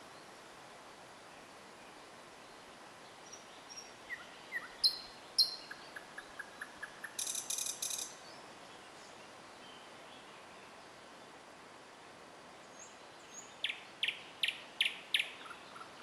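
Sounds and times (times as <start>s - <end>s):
songbirds calling: 1.8s - 11.4s, 12.6s - 16.0s.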